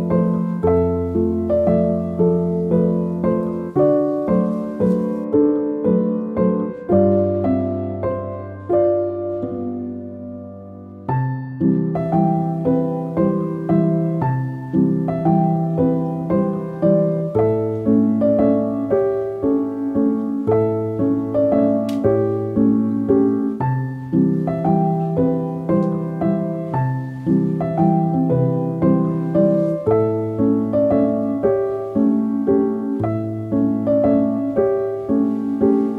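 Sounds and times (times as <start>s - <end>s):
piano music: 0.0s - 35.9s.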